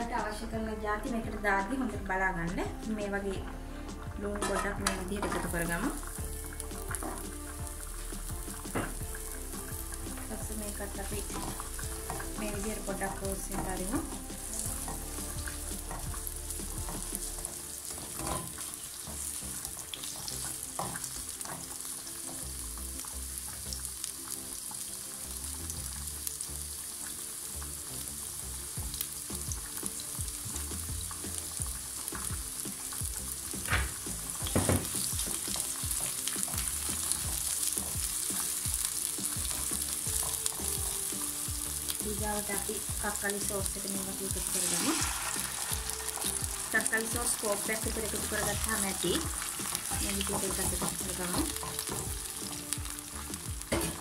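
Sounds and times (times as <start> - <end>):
onion sizzling in oil: 0.0 - 54.0.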